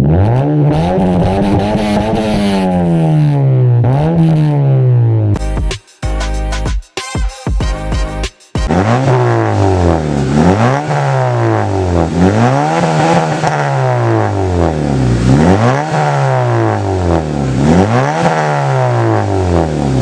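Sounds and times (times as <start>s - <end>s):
car engine revving: 0.0s - 5.4s, 8.6s - 20.0s.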